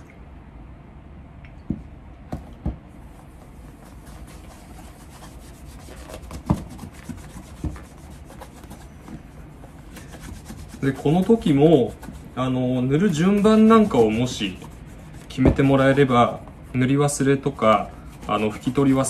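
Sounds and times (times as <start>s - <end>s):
cloth rubbing shoe: 3.0s - 19.0s.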